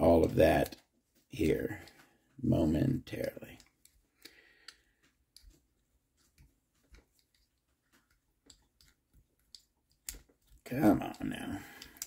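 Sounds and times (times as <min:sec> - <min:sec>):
faint metal clicks: 0:00.2 - 0:12.0.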